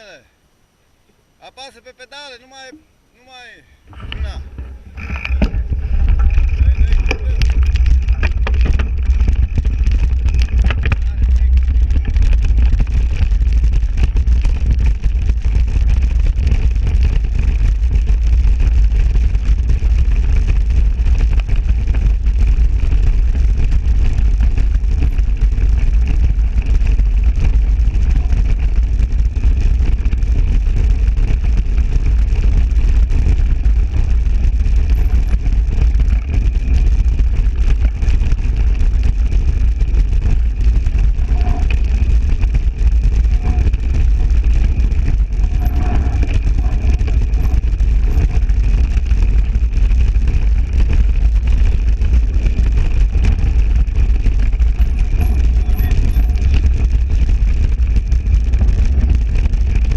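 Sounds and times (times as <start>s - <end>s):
bike tyres rumbling on dirt: 3.8s - 59.9s
wind buffeting microphone: 3.8s - 59.9s.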